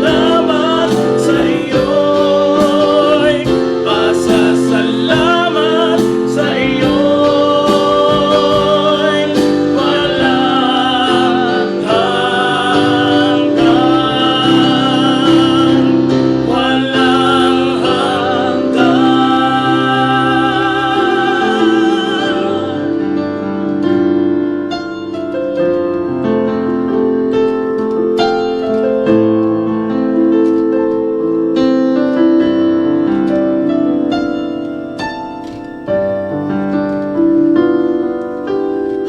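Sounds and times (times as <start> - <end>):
gentle piano playing: 0.0 - 39.0.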